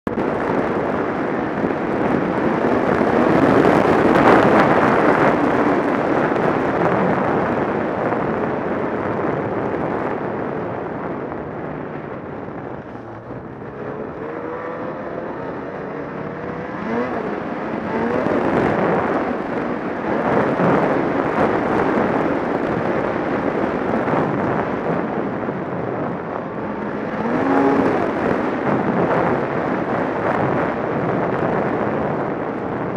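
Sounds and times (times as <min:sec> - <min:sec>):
snowmobile engine running hard: 0:00.1 - 0:32.9.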